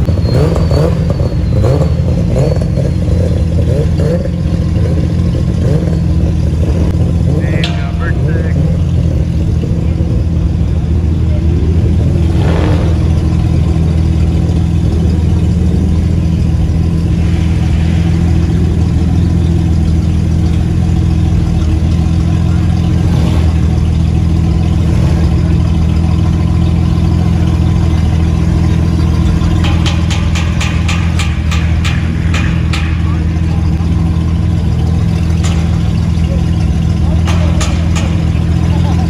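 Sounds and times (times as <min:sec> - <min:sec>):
car engines idling: 0:00.0 - 0:39.0.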